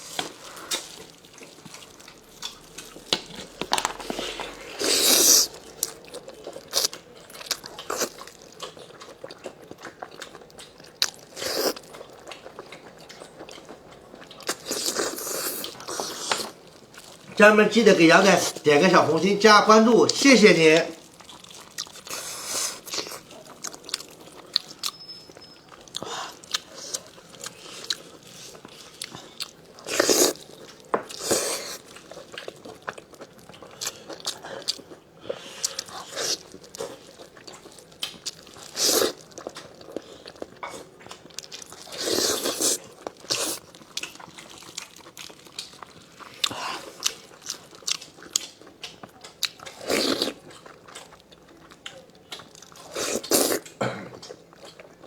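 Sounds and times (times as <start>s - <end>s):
chewing and biting: 0.0s - 17.4s, 21.0s - 55.0s.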